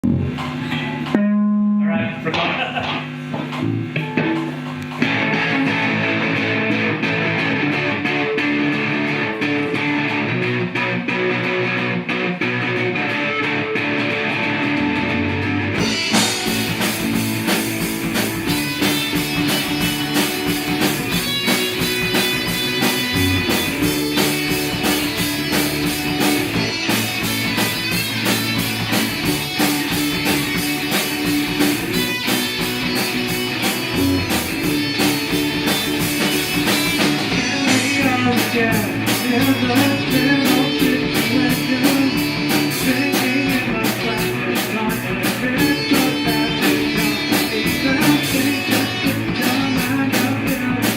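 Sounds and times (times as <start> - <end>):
rock song with guitar: 2.4 - 50.9.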